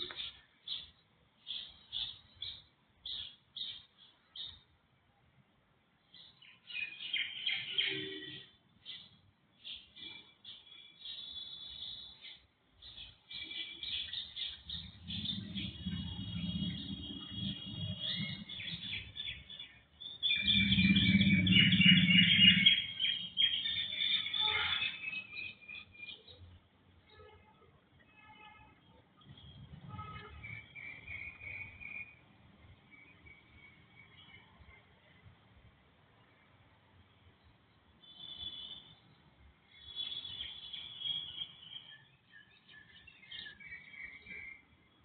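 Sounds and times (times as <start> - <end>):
birds chirping: 0.0 - 4.7, 6.0 - 27.1, 28.8 - 35.4, 36.2 - 45.0.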